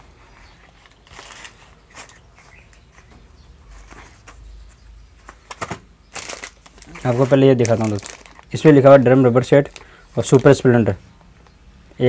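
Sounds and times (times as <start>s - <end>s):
packets rustling and tapping: 0.4s - 10.6s.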